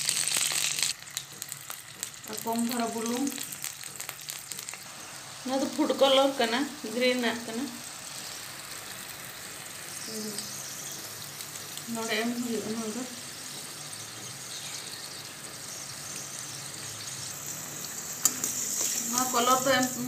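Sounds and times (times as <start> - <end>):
liquid sizzling in a pan: 0.0 - 20.0.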